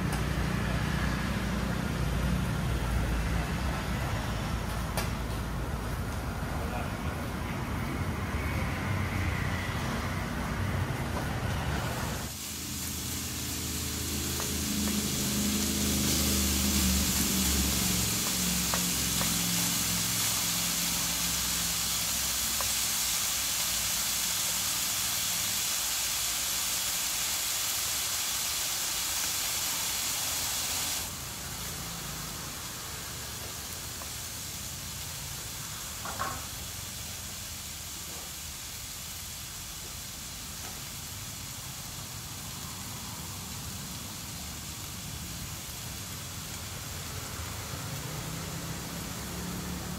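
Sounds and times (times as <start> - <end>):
pork sizzling on grill pan: 0.0 - 5.3, 8.4 - 49.9.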